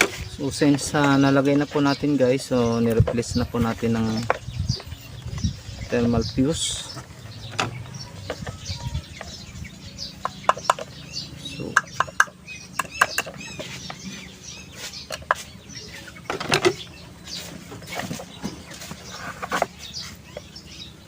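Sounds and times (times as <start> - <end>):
chickens clucking: 0.0 - 21.0
small birds chirping: 0.0 - 21.0.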